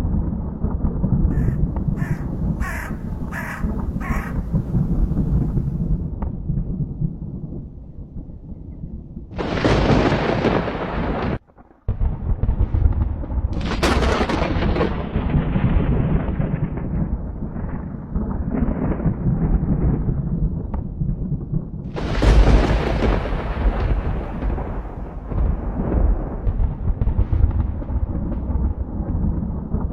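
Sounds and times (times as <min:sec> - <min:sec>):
thunder cracks and rumble: 0:00.0 - 0:29.9.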